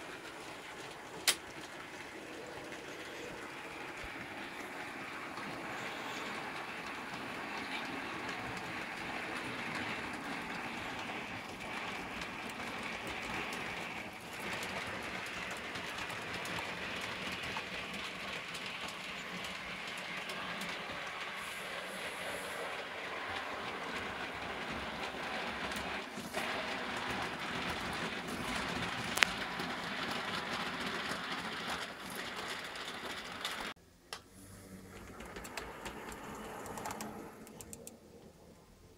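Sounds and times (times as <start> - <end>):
model train motors whirring: 0.0 - 33.7, 34.4 - 38.0.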